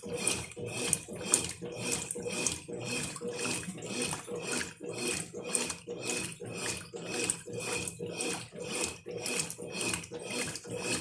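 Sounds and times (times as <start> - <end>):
washing machine water sloshing: 0.0 - 11.0.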